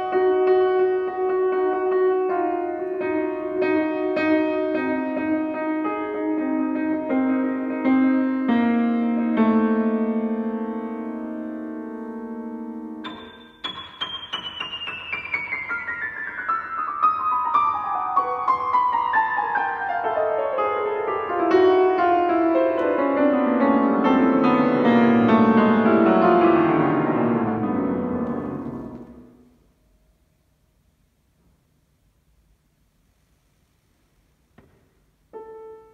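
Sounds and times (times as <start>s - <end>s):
piano playing: 0.0s - 29.6s.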